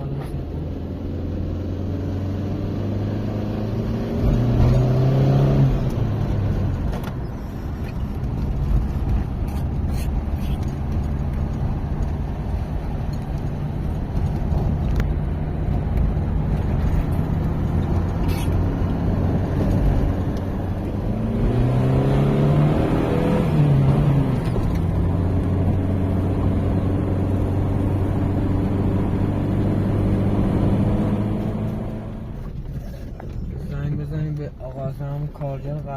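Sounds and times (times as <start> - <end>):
vehicle engine running while driving: 0.0 - 35.9.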